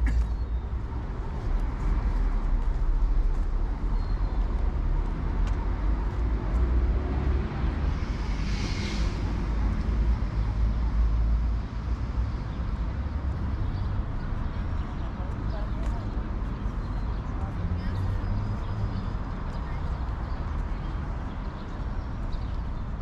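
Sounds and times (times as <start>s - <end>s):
cars passing: 0.0s - 23.0s
deep traffic rumble: 0.0s - 23.0s.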